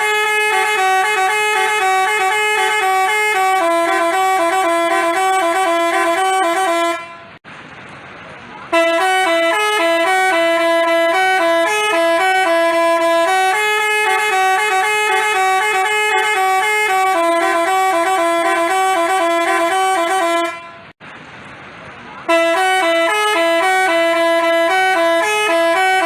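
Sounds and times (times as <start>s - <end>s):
horn playing a melody: 0.0s - 7.4s, 8.7s - 20.9s, 22.3s - 26.0s.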